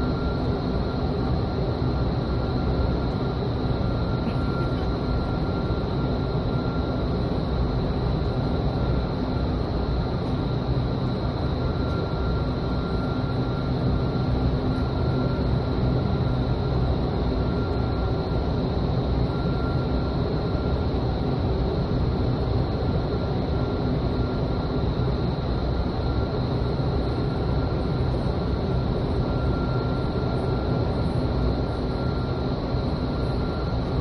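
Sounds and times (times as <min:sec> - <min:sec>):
faint steady whines: 0:00.0 - 0:34.0.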